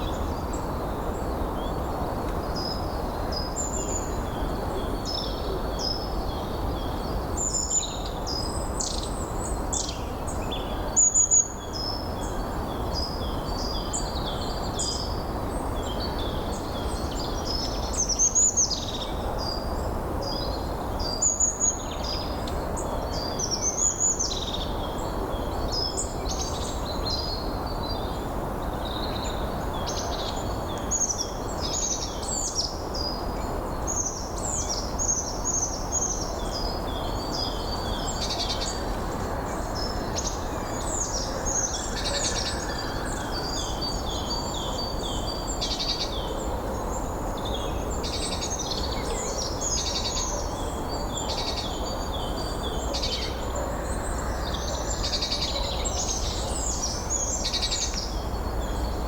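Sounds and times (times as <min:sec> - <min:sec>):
small birds singing: 0:00.0 - 0:59.0.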